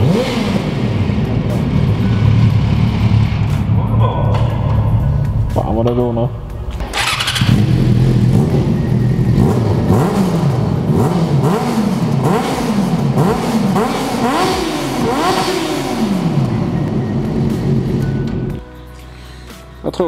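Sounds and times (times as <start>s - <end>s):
motorcycle engine revving: 0.0s - 5.5s, 6.7s - 18.5s.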